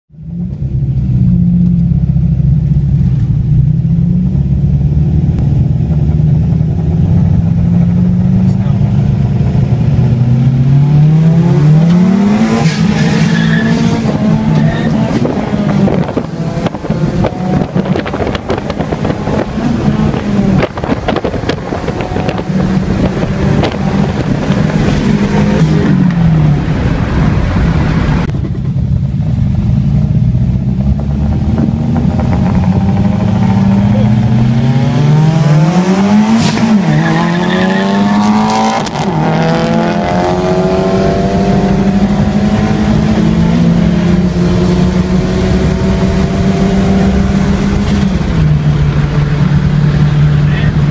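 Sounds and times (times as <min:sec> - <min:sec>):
car engine revving: 0:00.1 - 0:50.9
wind and road rush: 0:00.1 - 0:50.9.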